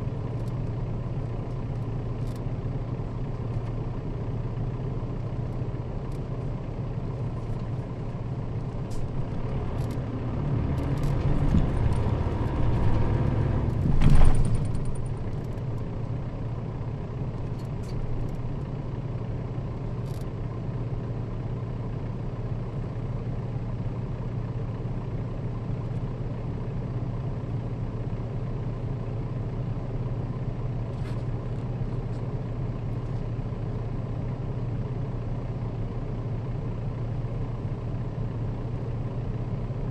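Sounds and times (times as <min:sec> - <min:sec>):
bus diesel engine humming: 0:00.0 - 0:39.9.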